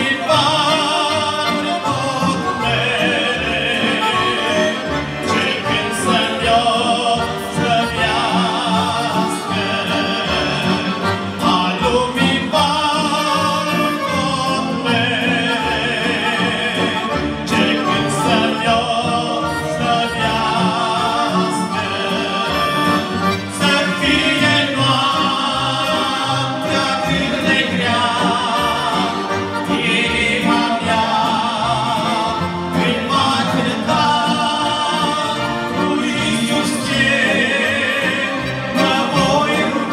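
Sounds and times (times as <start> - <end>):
accordions playing: 0.0 - 39.9
men singing: 0.0 - 39.9.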